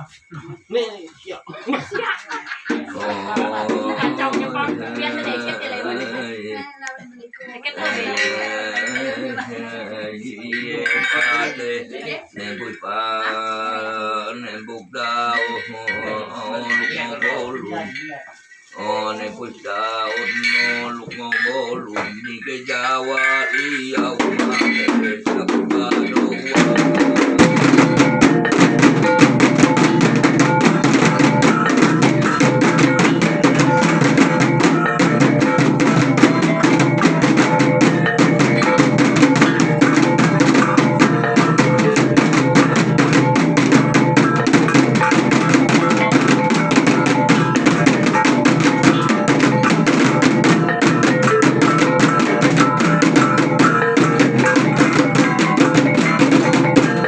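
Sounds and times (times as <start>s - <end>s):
drums beaten in fast rhythm: 0.0s - 57.0s.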